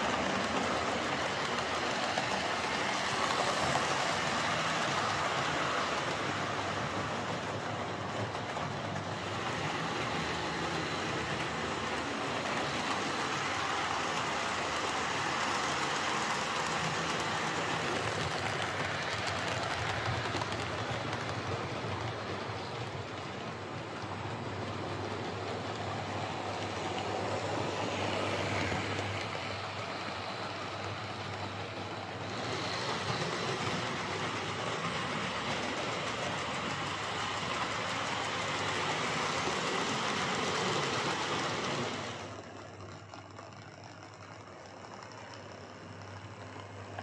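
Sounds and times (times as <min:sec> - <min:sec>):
model trains running on track: 0:00.0 - 0:47.0.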